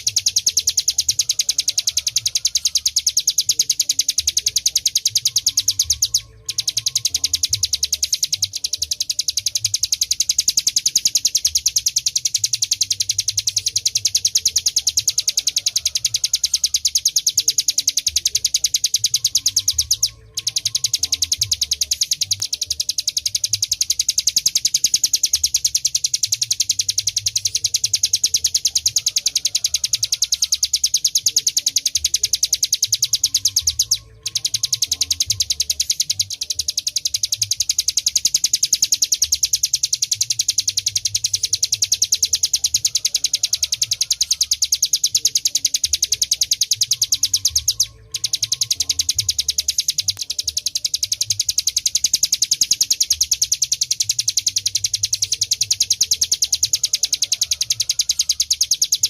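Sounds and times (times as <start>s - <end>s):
bird rapid high trill: 0.0s - 59.0s.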